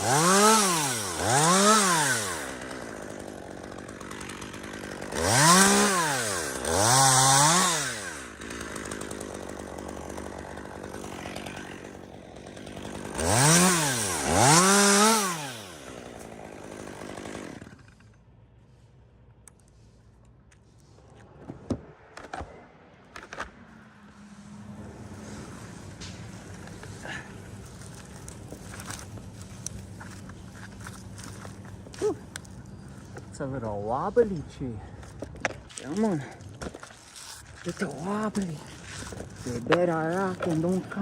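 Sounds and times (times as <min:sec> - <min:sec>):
chainsaw revving and idling: 0:00.0 - 0:18.2, 0:24.4 - 0:41.0.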